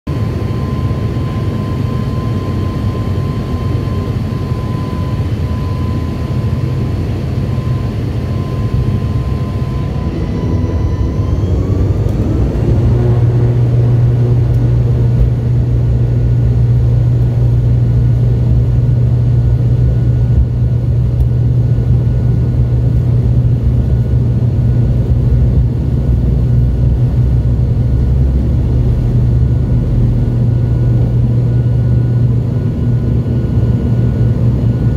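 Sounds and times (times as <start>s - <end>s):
turboprop engines droning: 0.1s - 34.9s.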